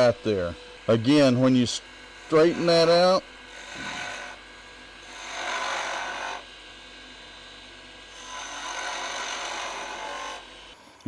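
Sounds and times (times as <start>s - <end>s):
chisel cutting wood on a lathe: 0.0s - 10.8s.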